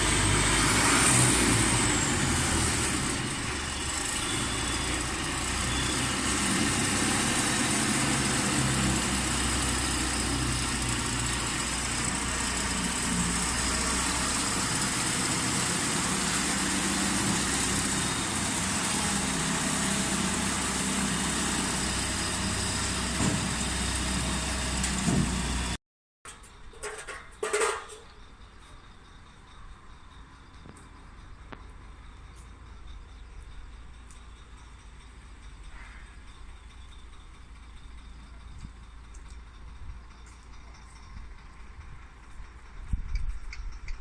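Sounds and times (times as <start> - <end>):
diesel engine running: 0.0 - 25.8, 26.8 - 44.0
harvester machinery noise and hiss: 0.0 - 44.0.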